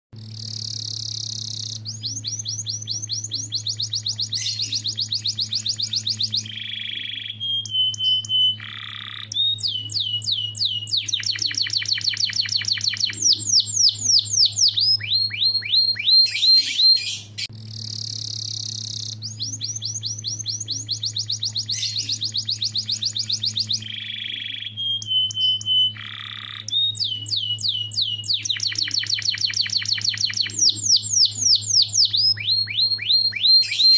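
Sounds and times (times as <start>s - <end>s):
canary singing trills: 0.2s - 33.9s
steady low hum: 0.2s - 33.9s.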